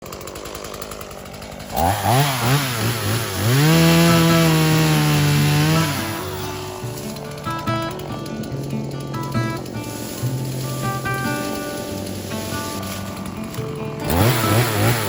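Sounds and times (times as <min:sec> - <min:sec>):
chainsaw revving: 0:00.0 - 0:15.0.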